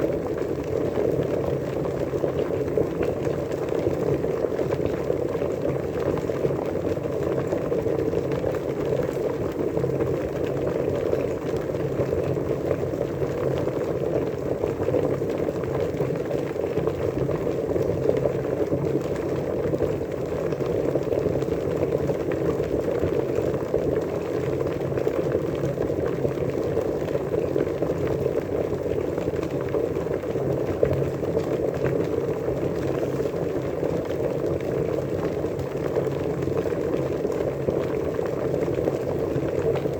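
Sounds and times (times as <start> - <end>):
water boiling and bubbling: 0.0 - 39.9.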